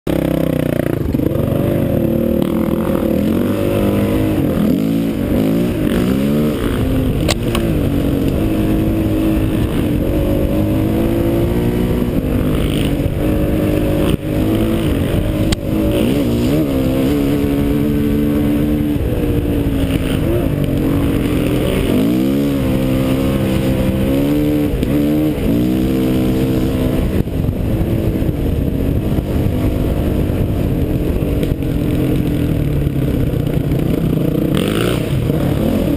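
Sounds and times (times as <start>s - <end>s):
dirt bike engine revving: 0.1s - 35.9s.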